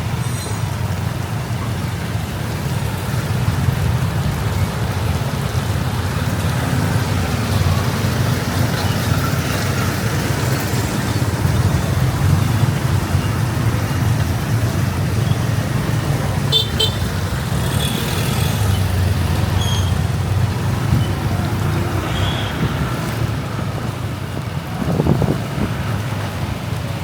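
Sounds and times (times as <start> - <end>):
traffic on wet road: 0.0 - 27.0.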